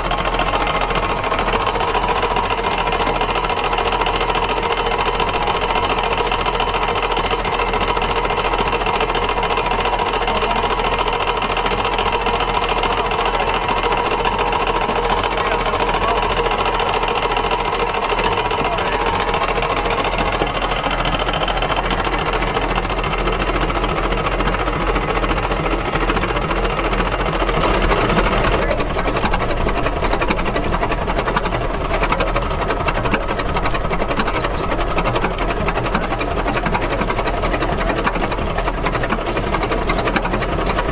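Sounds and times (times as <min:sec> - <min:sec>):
old gas engine clattering: 0:00.0 - 0:40.9.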